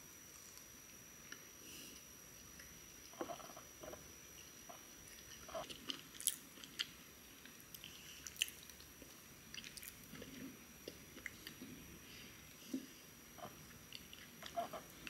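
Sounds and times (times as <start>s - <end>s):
soft chewing: 0.3s - 15.0s.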